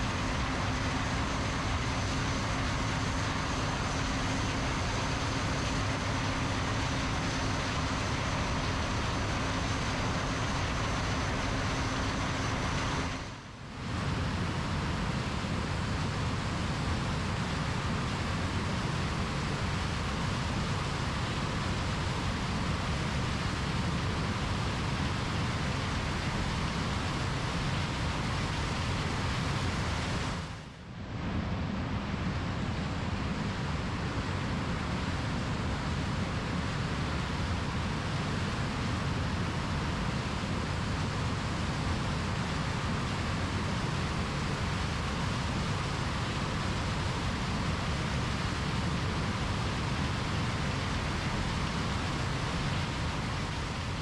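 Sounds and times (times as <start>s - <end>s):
combine harvester engine: 0.0s - 54.0s
steady hum: 0.0s - 54.0s.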